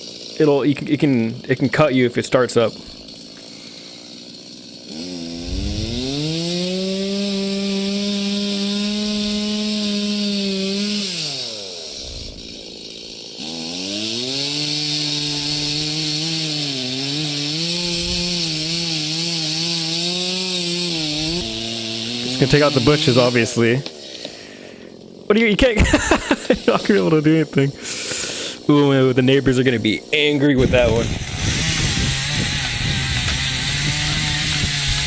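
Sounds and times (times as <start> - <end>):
gas chainsaw revving: 0.0 - 35.0.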